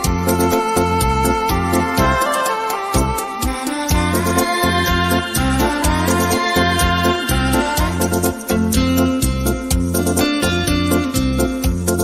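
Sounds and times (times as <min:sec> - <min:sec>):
programmed drum beat: 0:00.0 - 0:09.9
bass line: 0:00.0 - 0:12.0
electronic keyboard melody: 0:00.0 - 0:12.0.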